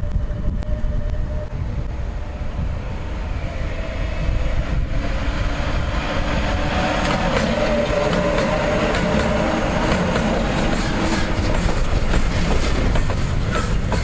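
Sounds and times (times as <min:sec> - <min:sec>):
freight train rumble: 0:00.0 - 0:14.0.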